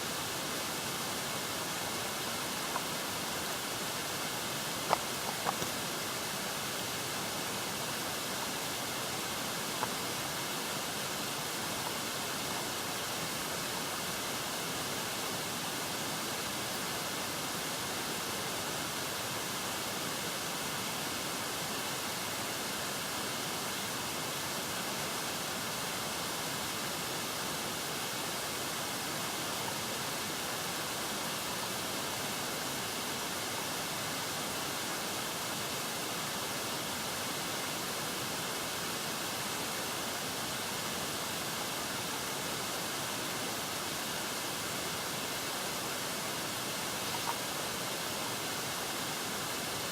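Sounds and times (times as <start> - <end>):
wind and water hiss: 0.0 - 49.9.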